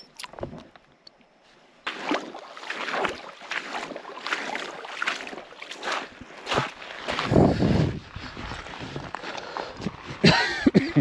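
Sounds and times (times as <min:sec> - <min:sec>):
water splashing and sloshing: 0:01.6 - 0:11.0.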